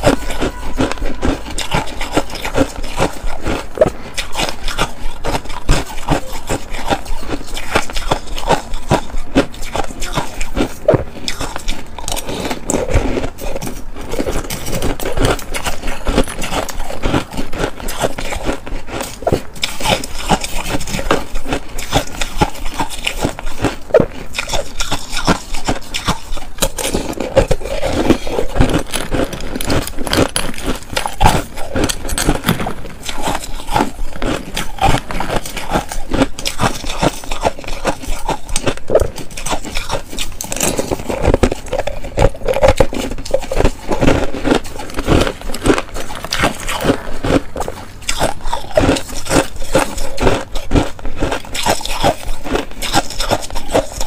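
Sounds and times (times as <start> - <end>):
chewing ice: 0.0 - 54.0
metal spoon scraping ice: 0.0 - 54.0.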